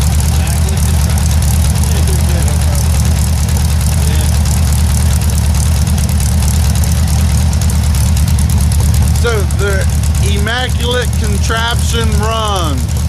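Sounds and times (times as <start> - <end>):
air-cooled engine idling: 0.0 - 13.0.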